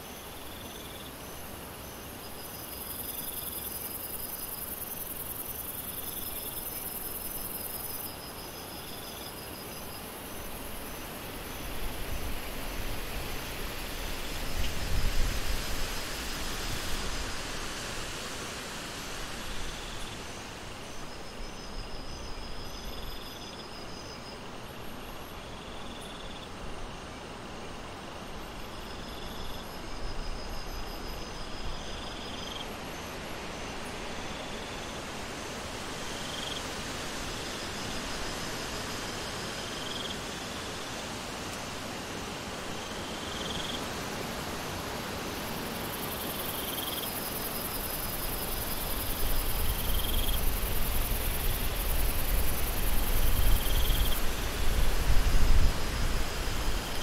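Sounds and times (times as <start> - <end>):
insects chirping: 0.0 - 57.0
steady rain hiss: 0.0 - 57.0.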